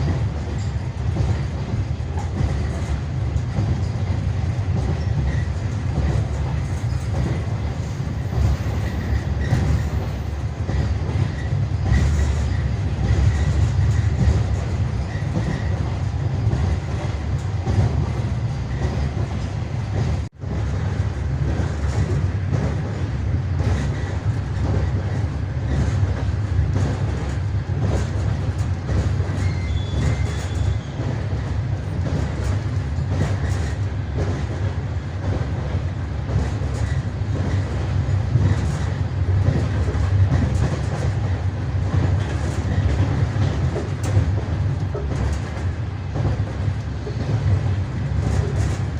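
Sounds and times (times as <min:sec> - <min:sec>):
train low rumble: 0:00.0 - 0:48.9
train wheels clattering over joints: 0:00.0 - 0:48.9.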